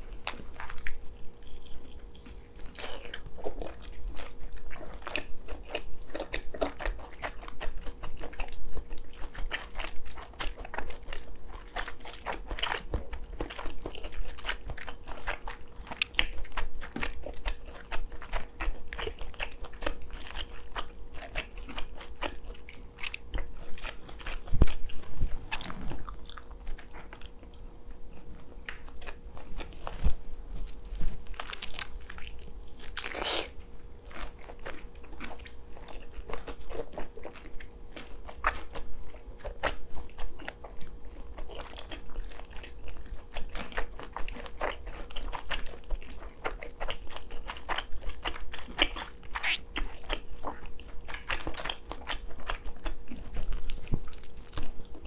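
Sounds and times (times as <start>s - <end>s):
person chewing and biting: 0.0s - 55.0s.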